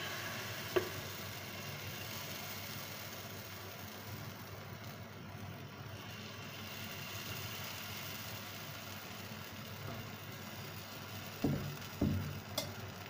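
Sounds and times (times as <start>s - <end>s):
batter sizzling on griddle: 0.0s - 13.0s.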